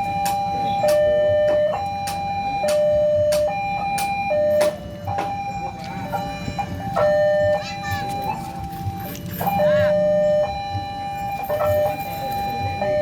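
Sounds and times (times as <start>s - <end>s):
sharp clicks in alarm: 0.0s - 13.0s
two-tone crossing alarm chime: 0.0s - 13.0s.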